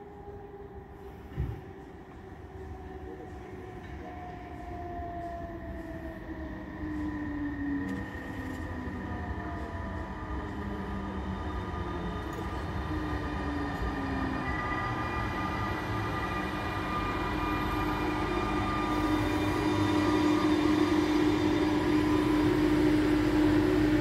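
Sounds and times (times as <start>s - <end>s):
electric locomotive rumbling: 0.0s - 24.0s.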